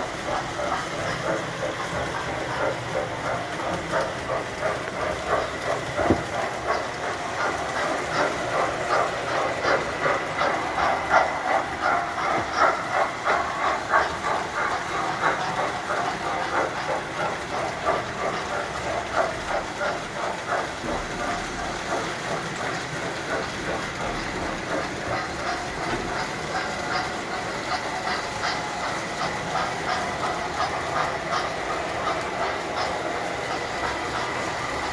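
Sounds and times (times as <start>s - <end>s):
toy train wheel clicks: 0.0s - 34.9s.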